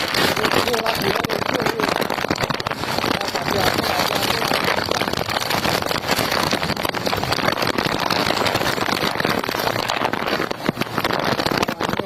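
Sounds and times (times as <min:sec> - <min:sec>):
heavy rain: 0:00.0 - 0:12.0
strong wind: 0:00.0 - 0:12.0.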